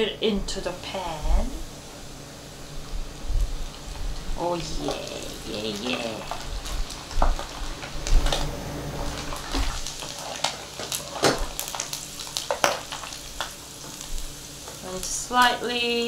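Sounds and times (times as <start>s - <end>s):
food deep-frying in oil: 0.5s - 16.0s.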